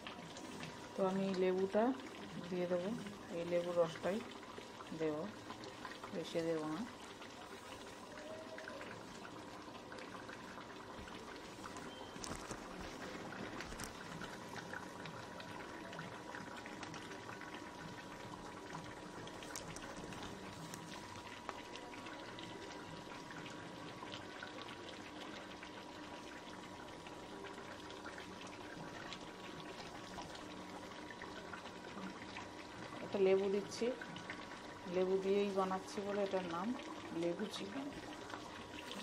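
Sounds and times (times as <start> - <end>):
curry sizzling and bubbling: 0.0 - 39.0.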